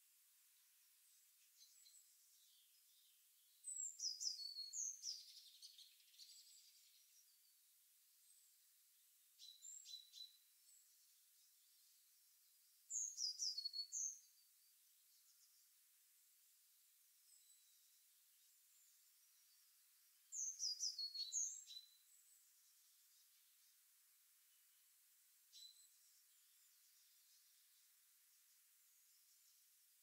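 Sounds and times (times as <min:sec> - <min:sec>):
songbird singing: 0:00.0 - 0:30.0
quiet bird call: 0:00.6 - 0:07.6, 0:08.2 - 0:15.8, 0:17.1 - 0:30.0.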